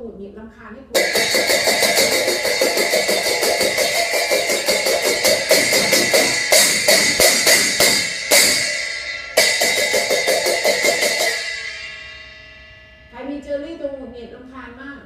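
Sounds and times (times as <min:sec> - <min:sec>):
small hand cymbals clashing: 0:01.0 - 0:13.6.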